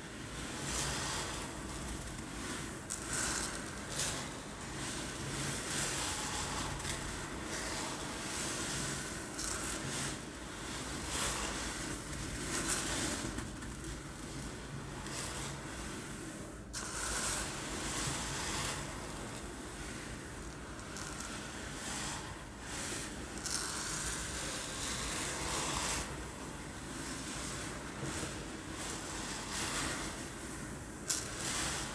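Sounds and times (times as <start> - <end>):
rice rattling in a container: 0.3 - 15.6, 16.8 - 31.9.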